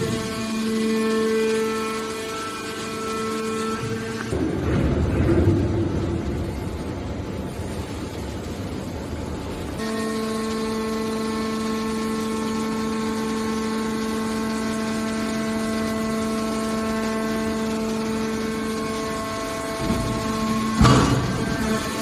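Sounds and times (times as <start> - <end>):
hydraulic pump motor humming: 0.0 - 22.0.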